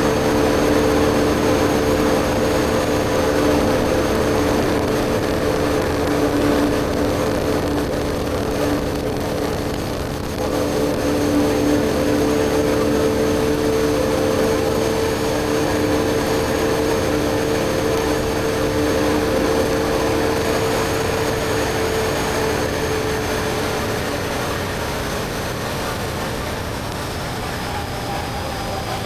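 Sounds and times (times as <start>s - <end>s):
motorcycle engine cruising: 0.0s - 29.0s
rush of noise: 0.0s - 29.0s.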